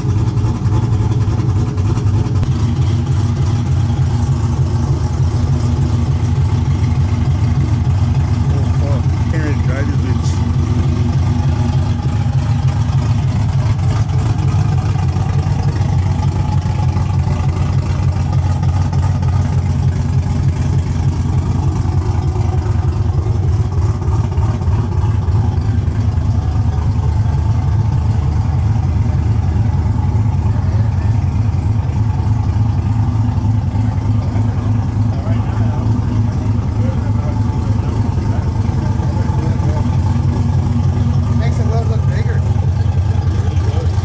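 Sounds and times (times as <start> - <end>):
truck engine and road drone: 0.0 - 44.0.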